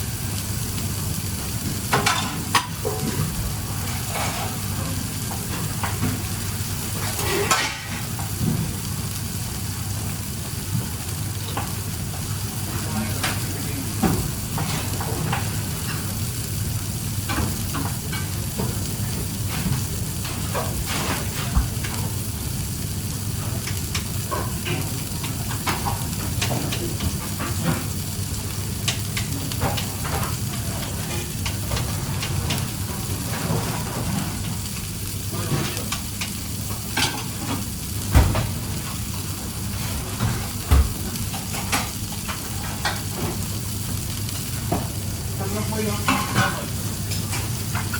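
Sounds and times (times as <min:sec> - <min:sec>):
food sizzling in a pan: 0:00.0 - 0:47.9.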